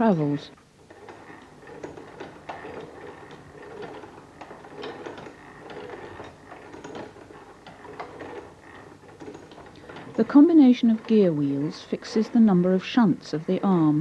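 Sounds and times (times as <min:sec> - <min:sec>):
lathe gears clicking and knocking: 0:00.8 - 0:14.0.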